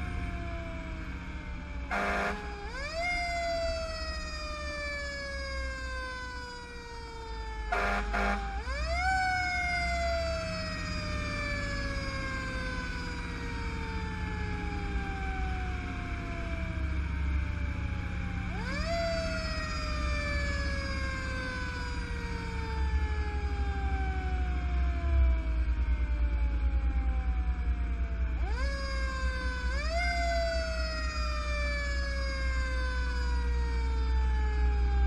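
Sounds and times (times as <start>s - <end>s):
fire engine siren wailing: 0.0s - 35.0s.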